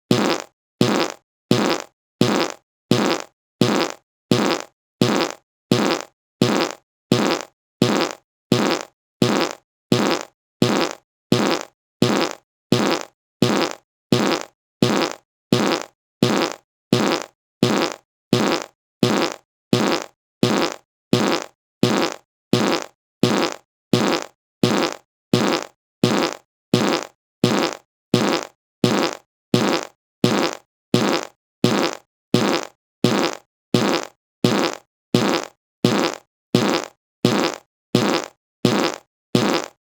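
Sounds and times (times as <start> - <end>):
fart sound effect: 0.1 - 39.8.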